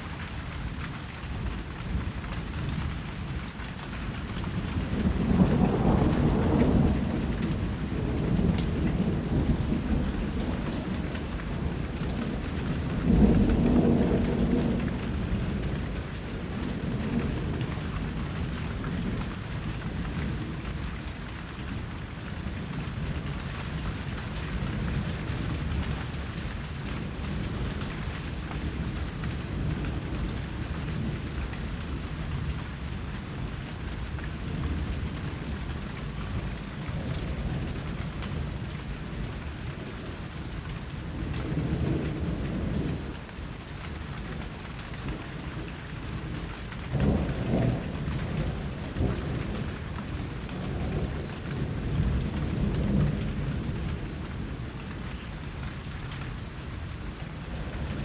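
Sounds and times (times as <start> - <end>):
steady rain: 0.0 - 58.0
thunder rumbling: 4.4 - 21.8, 22.4 - 58.0.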